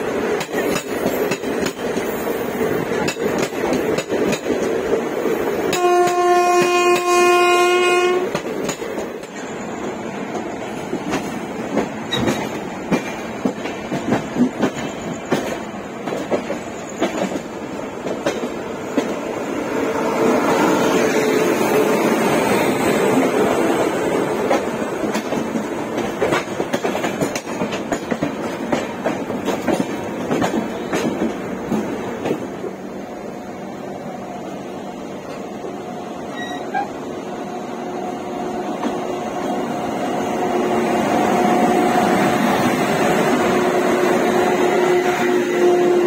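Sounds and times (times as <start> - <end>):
passing electric locomotive: 0.0 - 46.0
train wheels rumbling and clattering: 0.0 - 46.0.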